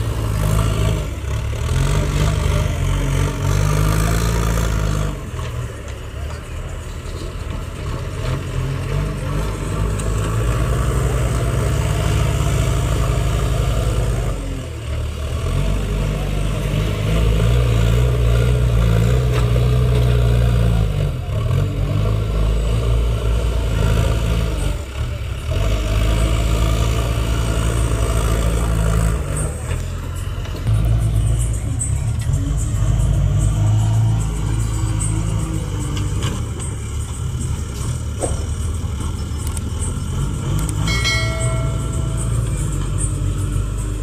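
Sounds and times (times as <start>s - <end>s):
diesel engines revving under load: 0.0s - 44.0s.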